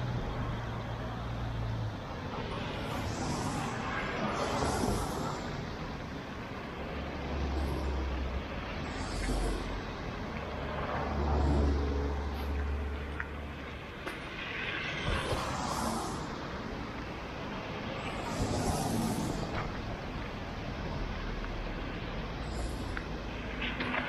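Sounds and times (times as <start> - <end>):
cars driving on wet road: 0.0 - 24.0
low steady rumble: 0.0 - 24.0.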